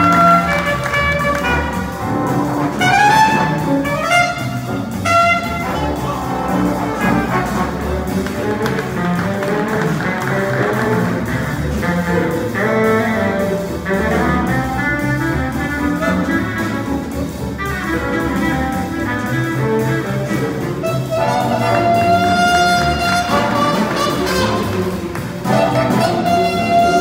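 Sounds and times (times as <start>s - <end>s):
big band playing jazz: 0.0s - 27.0s.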